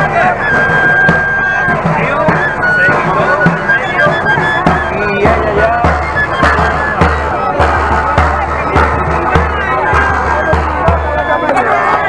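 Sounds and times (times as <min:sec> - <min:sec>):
high melody: 0:00.0 - 0:12.0
low drum beat: 0:00.0 - 0:12.0.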